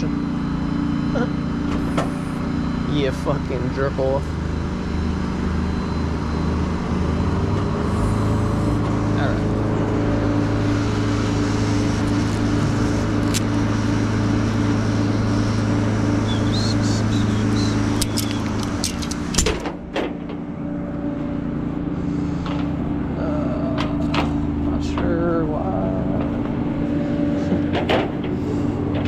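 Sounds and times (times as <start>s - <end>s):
road noise: 0.0s - 29.0s
vehicle engine running: 0.0s - 29.0s.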